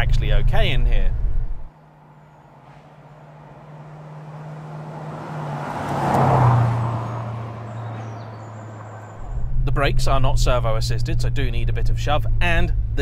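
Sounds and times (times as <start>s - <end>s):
car engine driving past: 1.3s - 13.0s.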